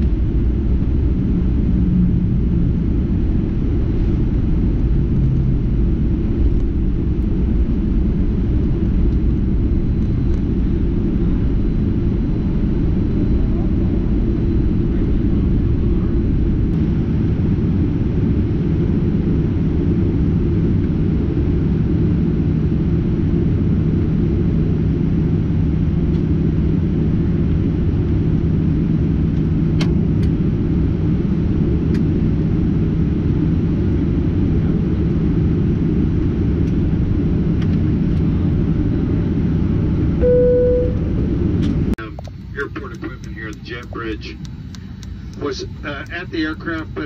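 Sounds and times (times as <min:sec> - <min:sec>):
jet engines idling: 0:00.0 - 0:47.0
steady low hum: 0:00.0 - 0:47.0.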